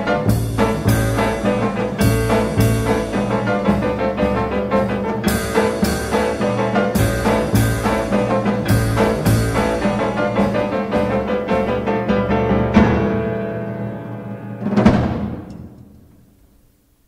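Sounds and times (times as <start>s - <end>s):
drum hits: 0.0s - 13.5s, 14.6s - 16.4s.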